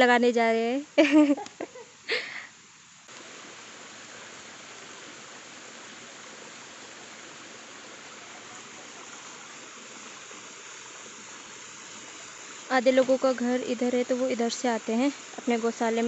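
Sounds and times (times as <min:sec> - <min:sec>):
stream water rushing: 0:00.8 - 0:16.0.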